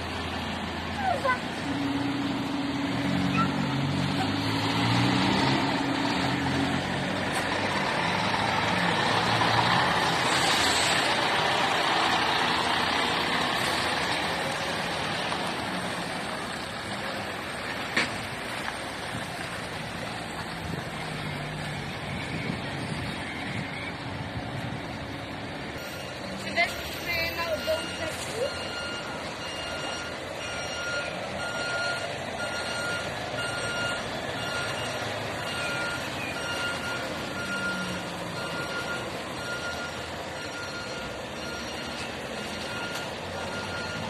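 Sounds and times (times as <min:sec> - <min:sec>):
fire engine diesel engine passing: 0:00.0 - 0:44.0.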